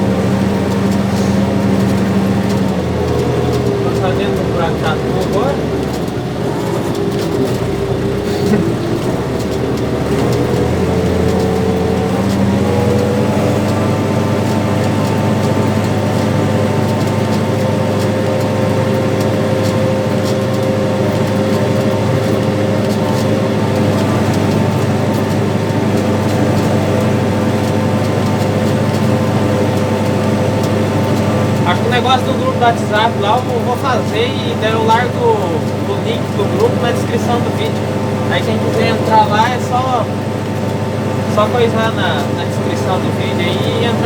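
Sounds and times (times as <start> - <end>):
tractor diesel engine: 0.0 - 44.0.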